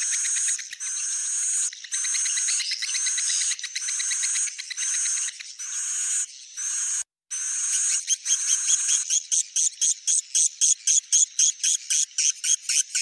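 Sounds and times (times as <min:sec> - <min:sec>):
birds twittering chirps: 0:00.0 - 0:07.0, 0:07.6 - 0:13.0.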